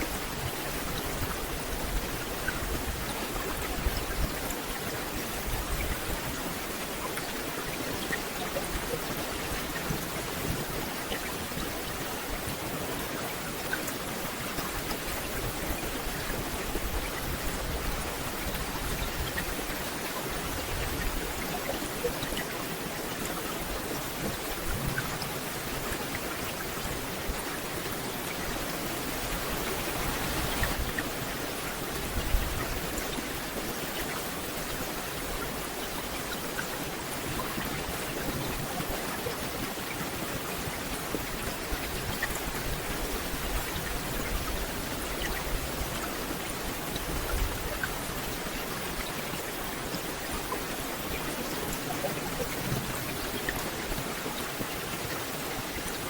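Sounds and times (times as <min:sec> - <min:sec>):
rain on forest canopy: 0:00.0 - 0:56.0.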